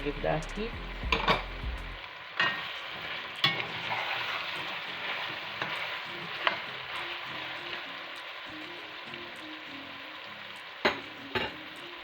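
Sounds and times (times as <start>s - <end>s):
food sizzling in a hot pot: 0.0s - 12.0s.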